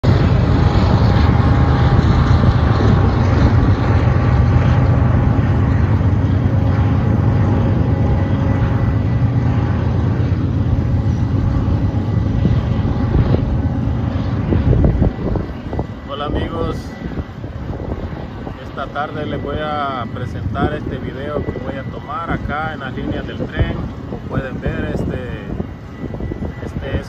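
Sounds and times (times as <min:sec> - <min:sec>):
diesel locomotive engines: 0:00.0 - 0:27.0
freight cars rumbling on rails: 0:00.0 - 0:27.0.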